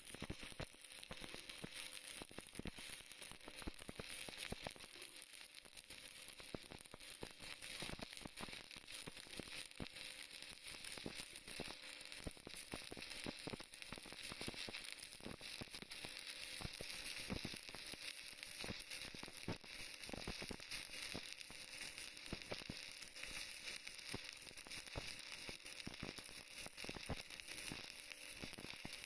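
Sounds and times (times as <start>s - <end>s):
welding arc sizzling and crackling: 0.0s - 29.0s.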